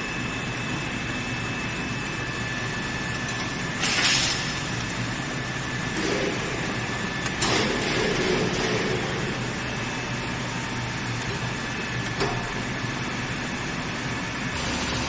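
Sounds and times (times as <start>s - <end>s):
machine hum with faint whine: 0.0s - 15.0s.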